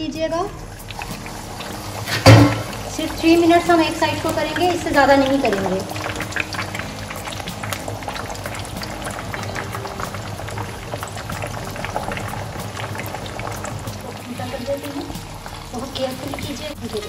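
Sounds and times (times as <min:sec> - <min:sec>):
oil bubbling and sizzling: 0:00.0 - 0:17.0.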